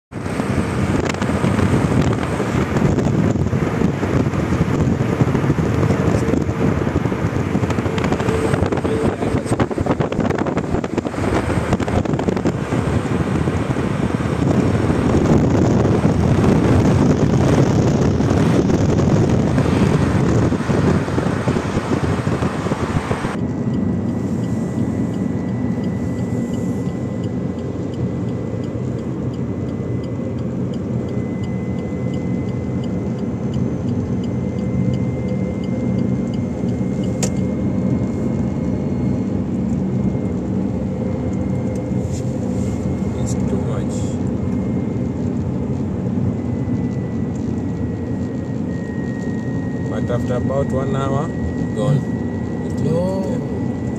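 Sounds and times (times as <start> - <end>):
loud rushing wind noise: 0.1 - 53.9
tyres and engine humming: 0.1 - 53.9.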